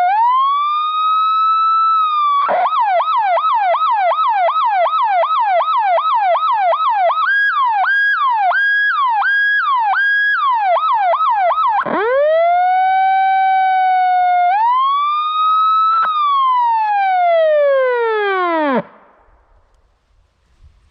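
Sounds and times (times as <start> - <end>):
electronic siren yelp and wail: 0.0 - 19.1.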